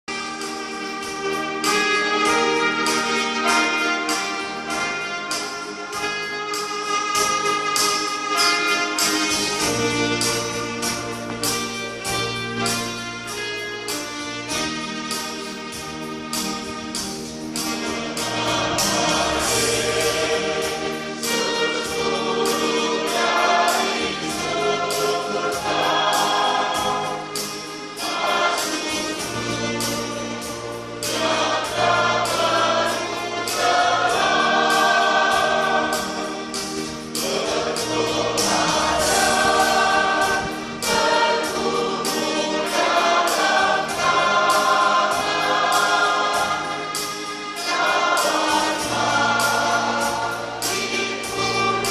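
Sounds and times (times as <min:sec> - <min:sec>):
choir singing a hymn: 0:00.1 - 0:51.9
instrumental accompaniment: 0:00.1 - 0:51.9.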